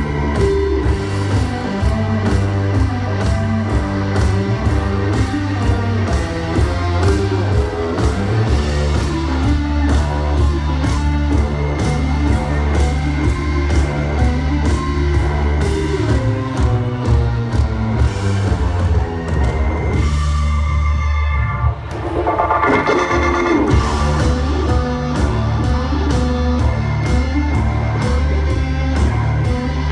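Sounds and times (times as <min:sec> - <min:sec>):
rock band playing: 0:00.0 - 0:29.9.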